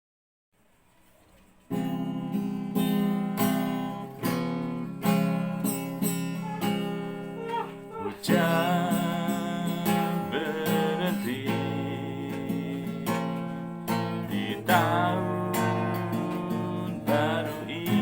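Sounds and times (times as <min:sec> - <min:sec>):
acoustic guitar strumming chords: 0:01.7 - 0:18.0.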